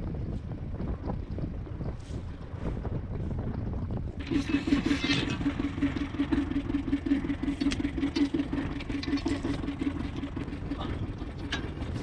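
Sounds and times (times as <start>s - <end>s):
wind rumbling on microphone: 0.0s - 12.0s
boat engine pulsing: 0.6s - 12.0s.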